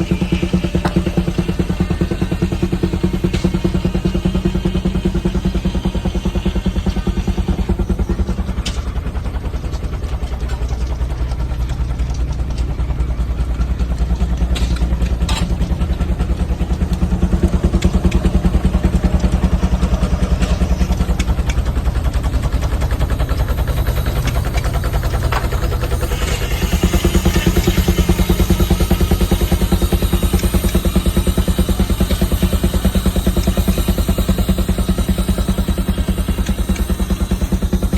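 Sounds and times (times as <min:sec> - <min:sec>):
steam engine running: 0:00.0 - 0:37.9.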